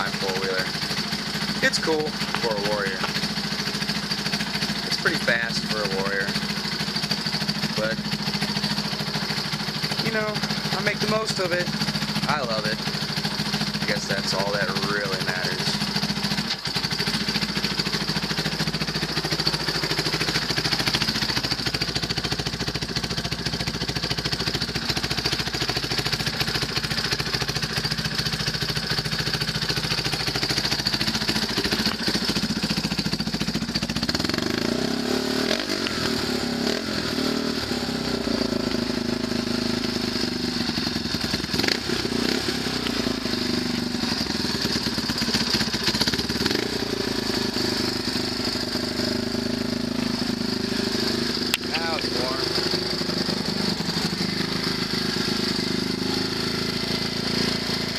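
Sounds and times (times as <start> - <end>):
atv engine idling and revving: 0.0 - 57.9.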